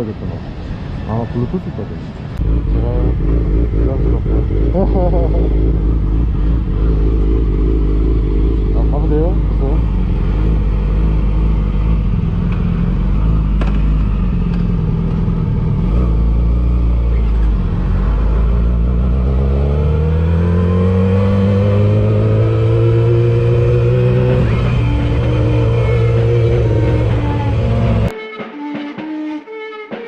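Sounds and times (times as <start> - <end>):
motorcycle engine accelerating: 2.4 - 28.1.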